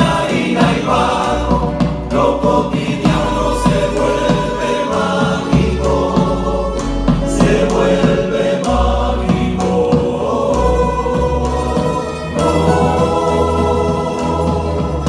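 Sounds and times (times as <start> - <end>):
men's chorus singing: 0.0 - 15.0
plucked lutes: 0.0 - 15.0
strummed acoustic guitars: 0.0 - 15.0.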